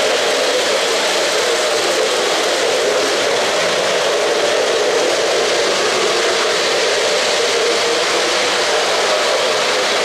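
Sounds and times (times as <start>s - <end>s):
model trains rumbling on track: 0.0s - 10.0s.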